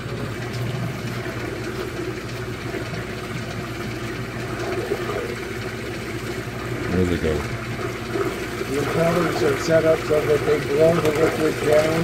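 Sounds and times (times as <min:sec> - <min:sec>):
air bubbling: 0:00.0 - 0:12.0
motor drive hum: 0:00.0 - 0:12.0
slurry churning and sloshing: 0:00.0 - 0:12.0.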